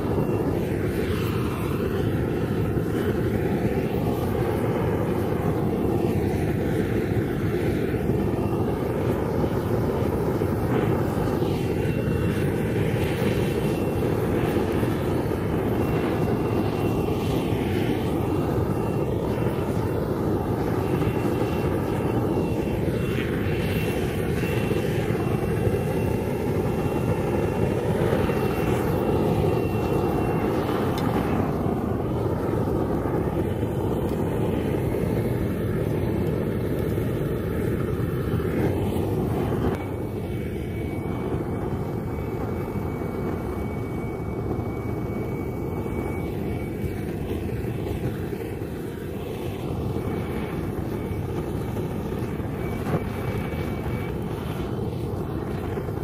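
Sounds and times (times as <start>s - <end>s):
propane torch flame rushing: 0.0s - 56.0s.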